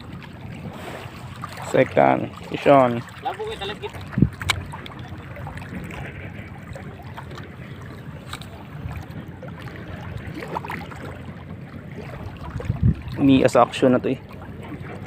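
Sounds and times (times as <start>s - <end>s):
low wind: 0.0s - 15.0s
water noise: 0.0s - 15.0s.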